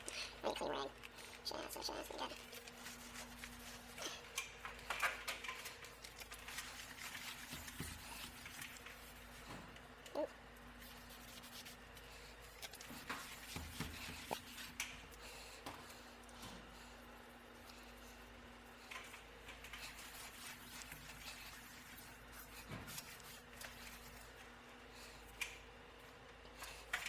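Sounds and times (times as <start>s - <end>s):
small clicks taps and rustles: 0.0s - 16.7s, 17.5s - 27.0s
faint steady hum: 0.0s - 27.0s.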